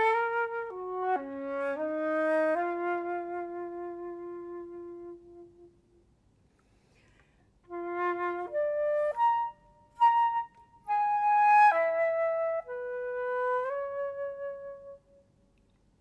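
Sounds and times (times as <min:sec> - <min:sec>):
flute playing: 0:00.0 - 0:05.9, 0:07.7 - 0:15.2.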